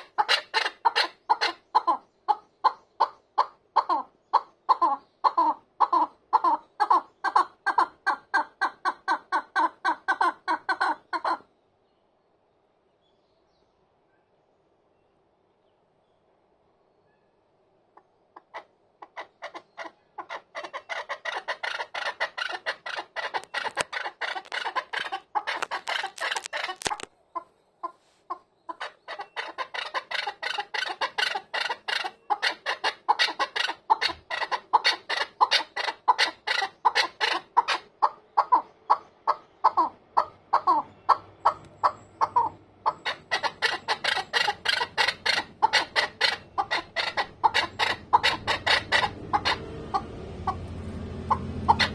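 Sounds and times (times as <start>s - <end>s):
partridge clucking calls: 0.0s - 11.5s, 18.0s - 51.9s.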